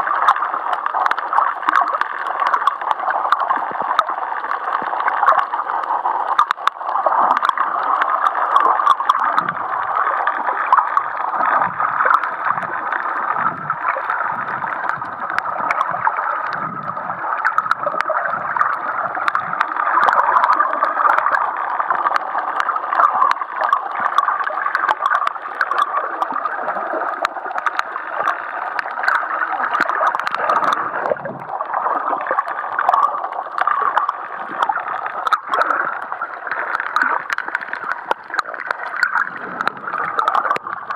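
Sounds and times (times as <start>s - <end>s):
muffled underwater water rush: 0.0s - 40.9s
sharp crackling clicks: 0.0s - 40.9s.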